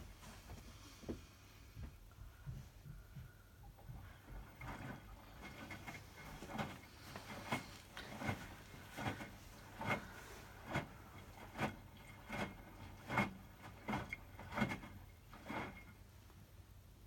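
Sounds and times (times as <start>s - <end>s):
washing machine drum swish and thud: 0.0s - 15.9s.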